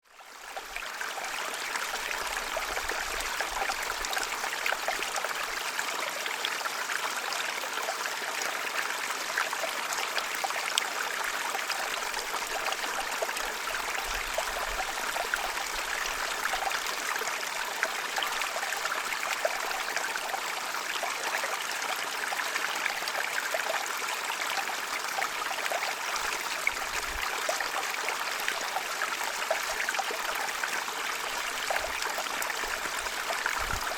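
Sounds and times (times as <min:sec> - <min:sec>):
stream babbling over stones: 0:00.2 - 0:33.9.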